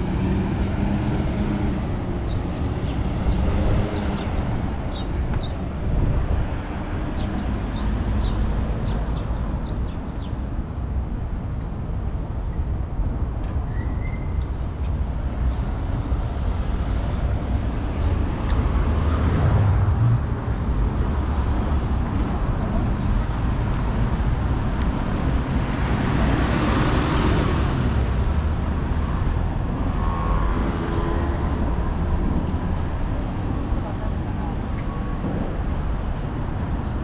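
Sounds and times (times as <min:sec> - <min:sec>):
cars passing on road: 0:00.0 - 0:37.0.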